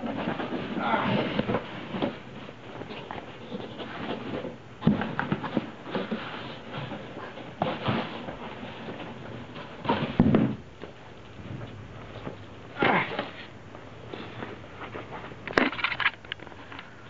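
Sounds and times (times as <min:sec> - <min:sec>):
cardboard rustling and scraping: 0:00.0 - 0:17.0.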